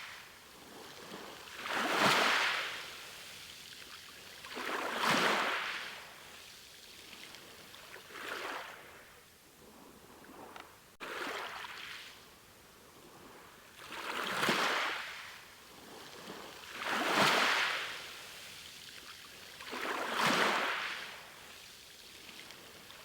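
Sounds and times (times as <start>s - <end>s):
waves breaking on a shore: 0.0s - 23.0s.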